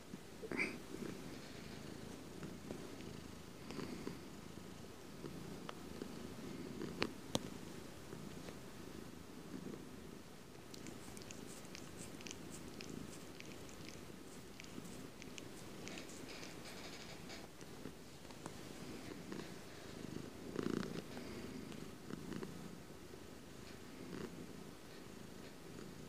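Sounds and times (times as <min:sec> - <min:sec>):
cat purring: 0:00.4 - 0:26.0.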